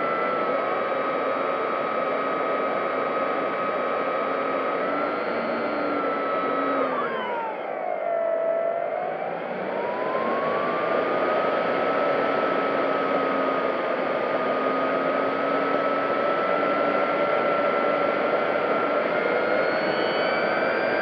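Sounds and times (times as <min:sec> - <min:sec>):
electric motor and propeller whining: 0:00.0 - 0:21.0.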